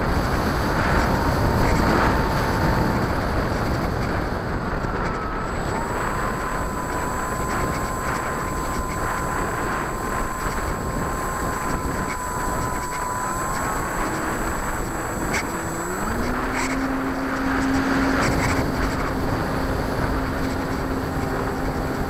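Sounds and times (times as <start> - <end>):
propeller and wind rushing: 0.0 - 22.0
thin steady whine: 0.0 - 22.0.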